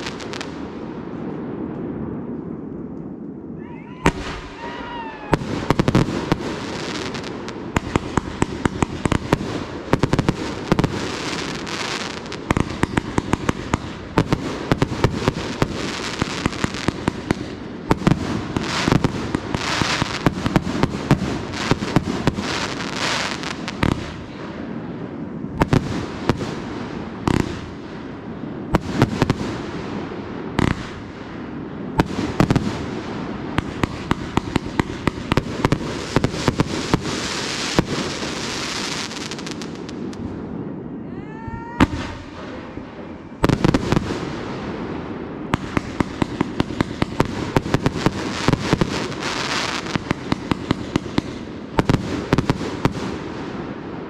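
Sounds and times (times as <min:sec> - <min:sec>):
fireworks crackling: 0:00.0 - 0:03.3, 0:04.1 - 0:54.0
fireworks bangs: 0:00.0 - 0:54.0.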